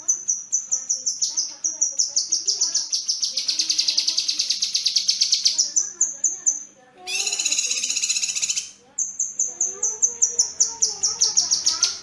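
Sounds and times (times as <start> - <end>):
songbird chirping and trilling: 0.0 - 12.0.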